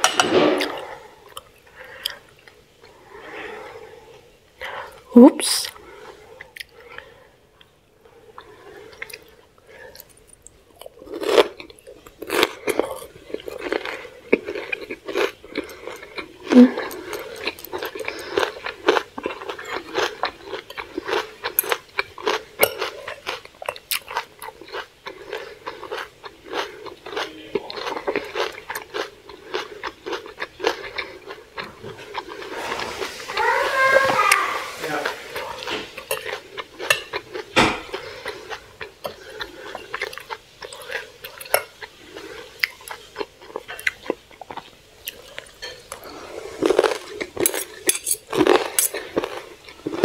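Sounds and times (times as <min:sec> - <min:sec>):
crunchy chewing: 0:05.7 - 0:50.0.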